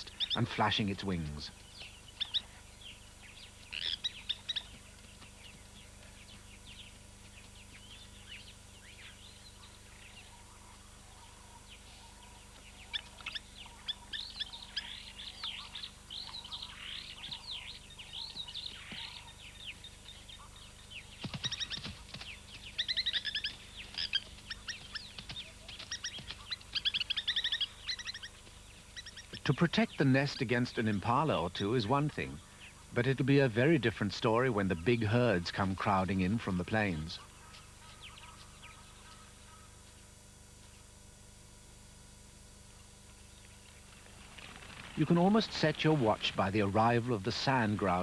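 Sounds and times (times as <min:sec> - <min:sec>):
plover alarm calls: 0:00.0 - 0:40.0, 0:43.8 - 0:48.0.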